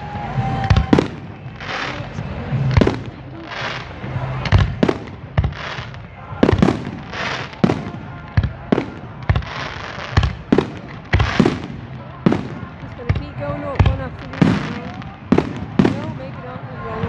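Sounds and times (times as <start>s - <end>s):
fireworks hissing crackle: 0.0s - 16.4s
fireworks bangs: 0.0s - 17.0s.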